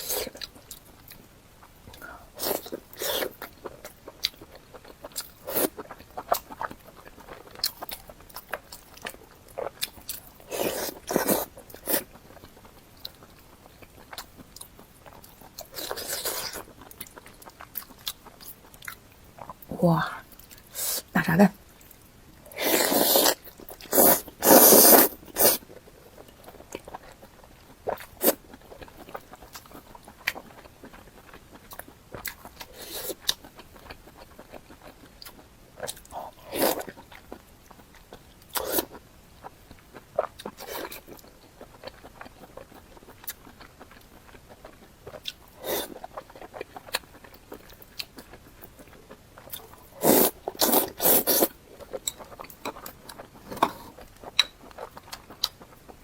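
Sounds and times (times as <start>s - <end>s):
crunchy food being chewed: 0.0s - 19.7s, 21.6s - 56.0s.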